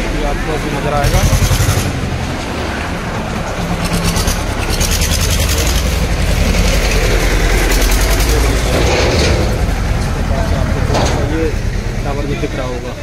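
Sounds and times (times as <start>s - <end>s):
heavy vehicle engine clattering: 0.0s - 13.0s.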